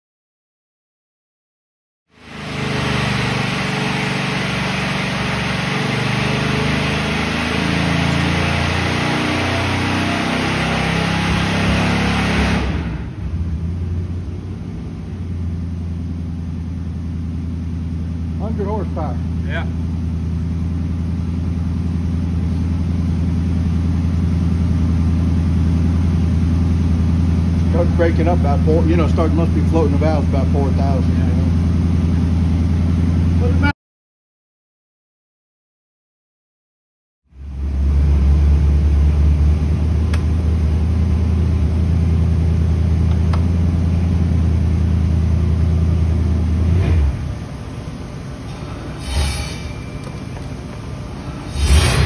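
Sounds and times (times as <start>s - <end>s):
engine droning on dyno: 2.1s - 33.7s, 37.3s - 52.0s.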